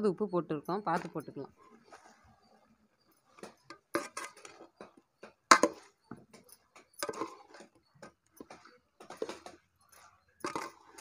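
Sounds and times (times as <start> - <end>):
spoon scraping a cooking pan: 0.7 - 11.0.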